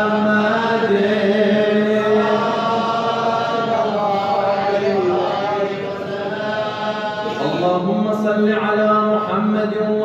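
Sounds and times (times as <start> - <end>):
man chanting: 0.0 - 10.0.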